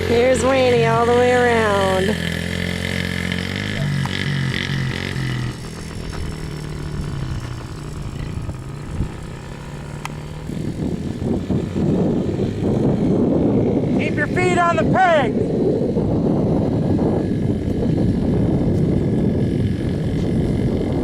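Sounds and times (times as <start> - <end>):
dirtbike engine revving: 0.0 - 21.0
rough rushing noise: 0.0 - 21.0.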